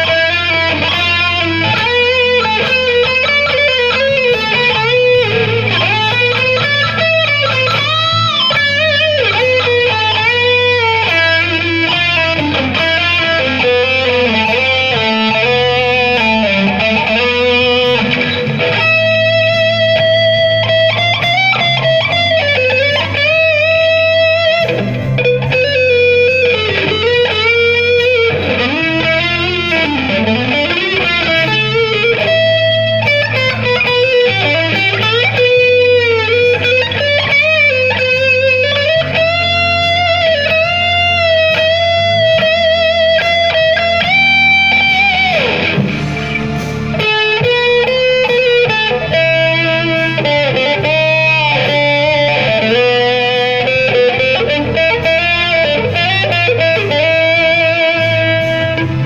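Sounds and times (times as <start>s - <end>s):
bass notes: 0.0s - 59.0s
electric guitar lead melody: 0.0s - 59.0s
rock backing track: 0.0s - 59.0s.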